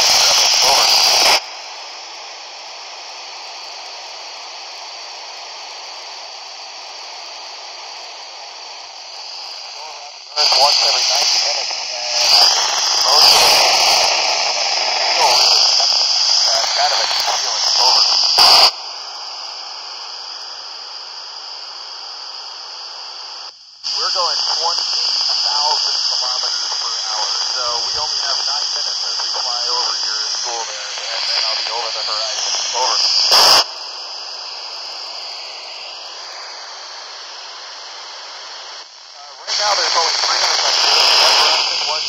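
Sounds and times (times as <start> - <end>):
radio static hiss: 0.0 - 42.0.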